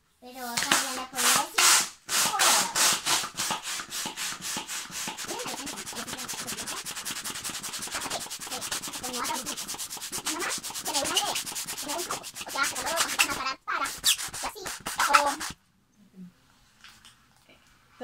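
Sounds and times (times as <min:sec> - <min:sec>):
hand pump hissing air: 0:00.7 - 0:15.6.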